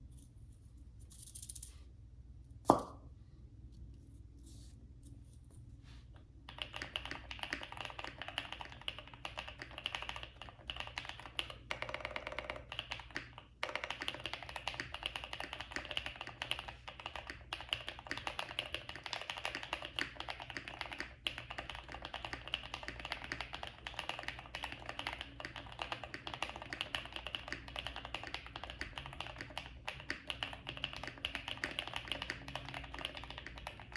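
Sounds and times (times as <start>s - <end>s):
mechanical keyboard typing: 6.5s - 33.9s.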